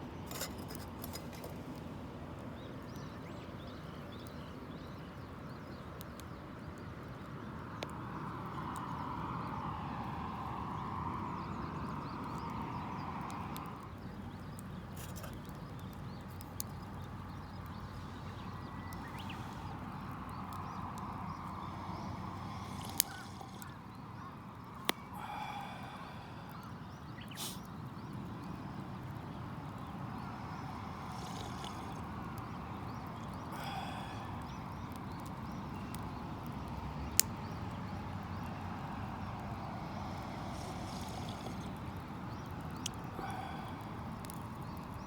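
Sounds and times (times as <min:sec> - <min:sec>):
campfire crackling and popping: 0:00.1 - 0:45.0.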